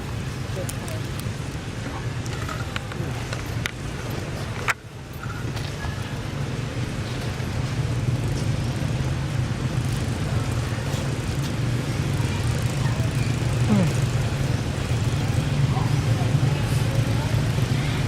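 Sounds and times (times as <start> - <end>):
vehicle engine low hum: 0.0 - 18.0.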